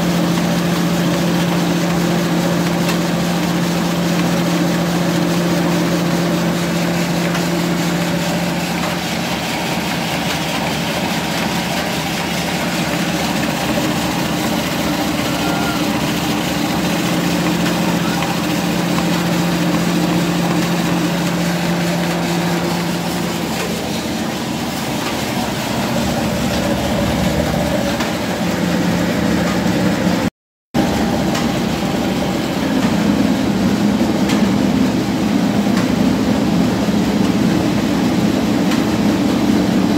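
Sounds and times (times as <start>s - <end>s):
grinding mill running: 0.0s - 39.9s.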